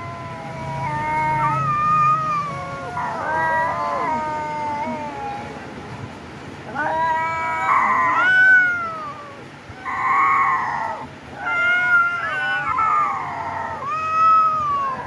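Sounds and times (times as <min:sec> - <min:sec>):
cats yowling: 0:00.0 - 0:15.0.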